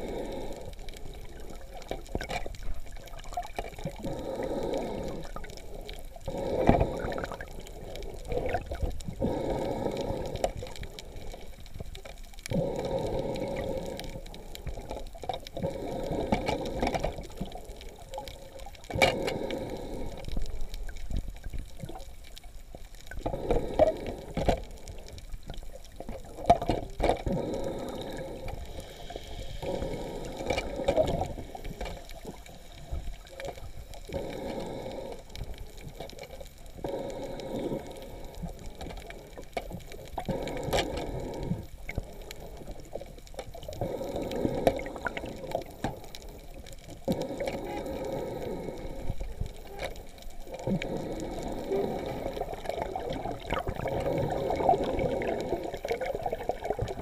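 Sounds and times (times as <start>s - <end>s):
water sloshing underwater: 0.0s - 57.0s.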